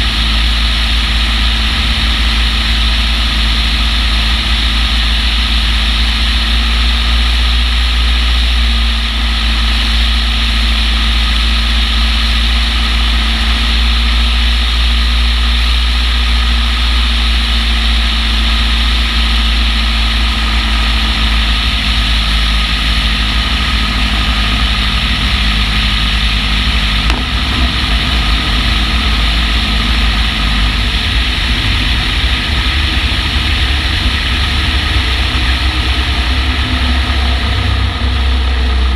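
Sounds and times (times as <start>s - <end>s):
low wind rumble: 0.0s - 38.9s
propeller engine running: 0.0s - 38.9s.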